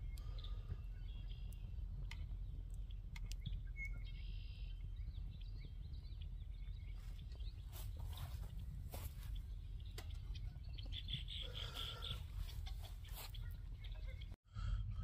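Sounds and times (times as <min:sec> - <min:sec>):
low steady rumble: 0:00.0 - 0:11.4, 0:13.5 - 0:15.0
birds chirping: 0:00.0 - 0:14.4.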